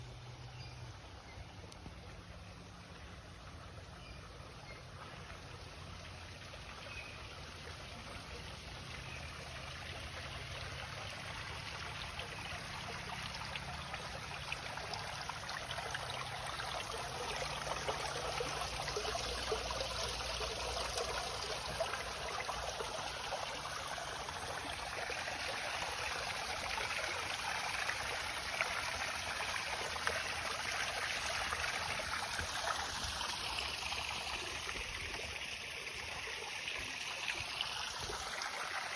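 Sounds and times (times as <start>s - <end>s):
waterfall trickling and splashing: 0.9s - 38.9s.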